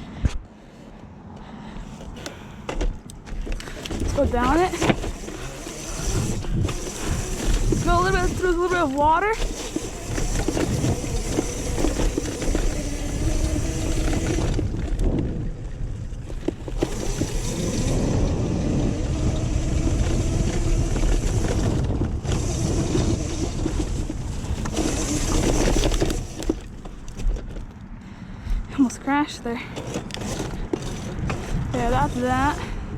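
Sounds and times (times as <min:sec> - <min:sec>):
wind rumble on microphone: 0:02.9 - 0:27.7, 0:30.1 - 0:32.9
electric motor whining: 0:03.3 - 0:27.2, 0:29.8 - 0:32.9.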